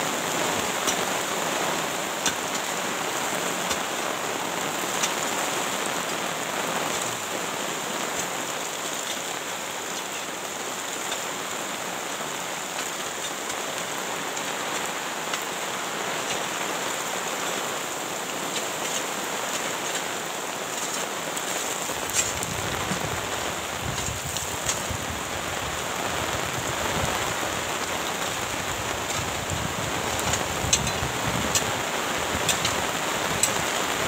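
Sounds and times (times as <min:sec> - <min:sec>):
heavy rain on plastic tarp: 0:00.0 - 0:34.0
runoff pouring onto ground: 0:00.0 - 0:34.0.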